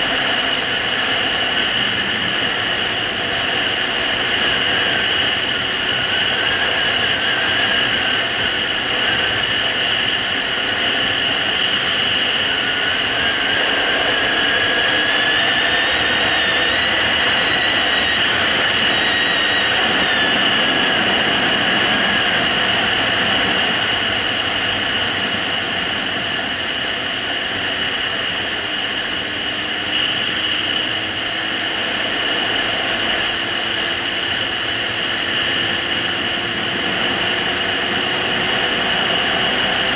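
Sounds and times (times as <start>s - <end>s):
motorcycle engine running: 0.0s - 39.9s
wind roar: 0.0s - 39.9s.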